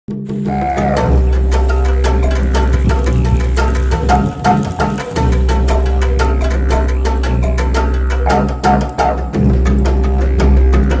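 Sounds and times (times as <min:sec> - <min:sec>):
background music: 0:00.1 - 0:11.0
deep bass note: 0:00.4 - 0:11.0.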